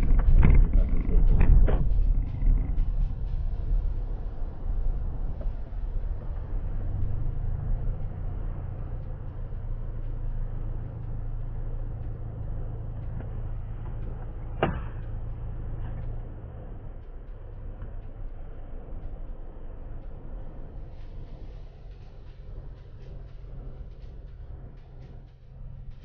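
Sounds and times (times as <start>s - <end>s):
car engine and road rumble: 0.0s - 26.0s
car engine idling: 0.0s - 26.0s.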